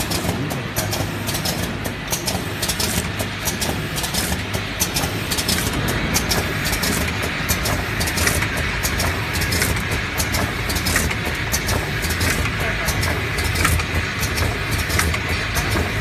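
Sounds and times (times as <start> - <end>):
machine motor hum: 0.0 - 16.0
rapid clicking and clatter: 0.0 - 16.0.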